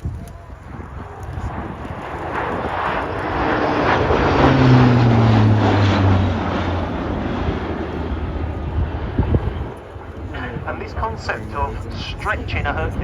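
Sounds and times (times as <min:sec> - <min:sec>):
propeller plane flying past: 0:00.2 - 0:13.0.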